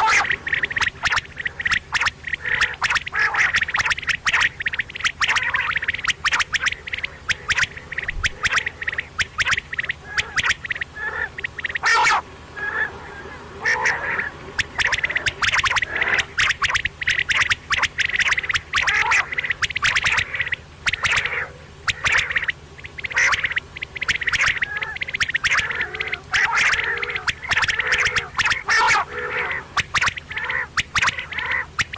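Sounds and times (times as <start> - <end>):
quail calling: 0.0 - 31.9.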